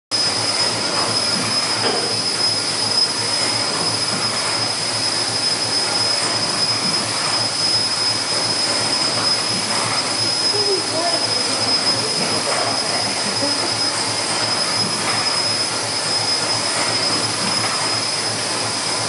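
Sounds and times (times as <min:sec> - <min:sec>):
steady high-pitched tone: 0:00.2 - 0:19.0
steam engine hissing: 0:00.2 - 0:19.0.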